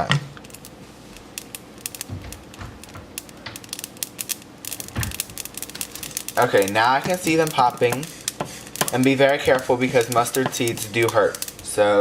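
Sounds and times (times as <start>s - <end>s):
seeds crackling in a hot pan: 0.0s - 12.0s.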